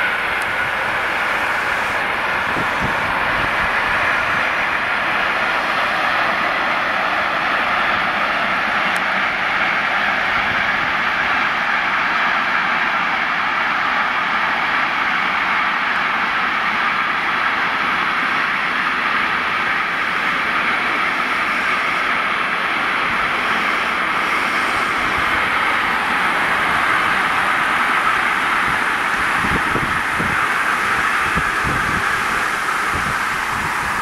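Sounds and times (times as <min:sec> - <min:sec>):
freight train running past: 0:00.0 - 0:34.0.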